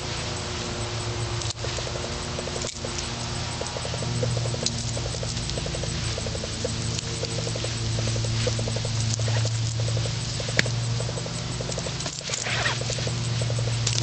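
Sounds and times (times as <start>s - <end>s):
rapid ticking: 0.0s - 14.0s
steady low hum: 0.0s - 14.0s.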